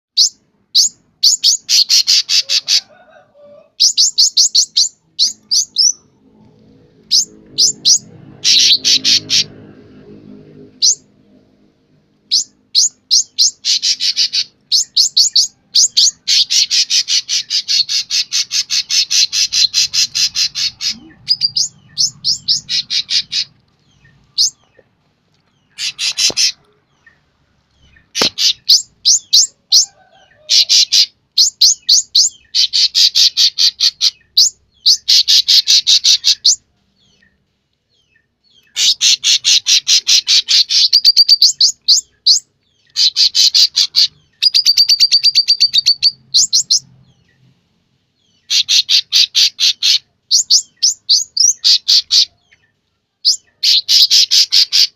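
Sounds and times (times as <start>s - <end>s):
songbird trilling chirps: 0.2s - 9.6s, 12.3s - 47.5s, 48.2s - 54.9s.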